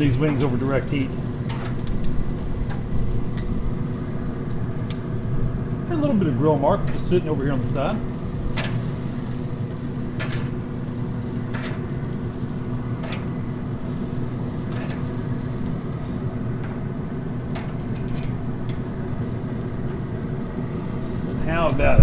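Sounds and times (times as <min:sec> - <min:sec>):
chicken wings sizzling: 0:00.0 - 0:22.0
grill fan humming: 0:00.0 - 0:22.0.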